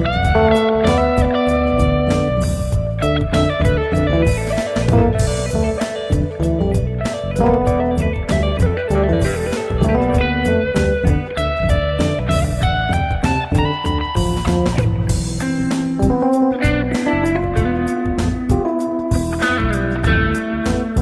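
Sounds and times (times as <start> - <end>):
blues-rock band playing: 0.0 - 21.0
electric guitar notes: 0.0 - 21.0.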